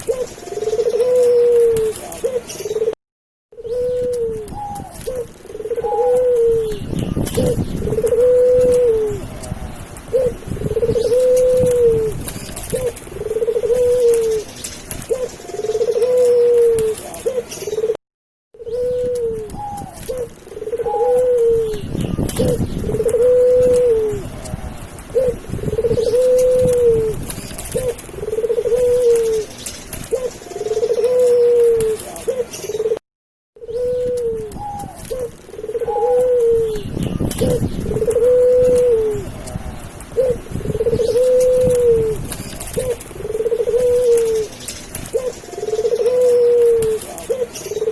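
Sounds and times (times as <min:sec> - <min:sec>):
doves cooing: 0:00.0 - 0:18.0, 0:18.6 - 0:33.0, 0:33.6 - 0:47.9.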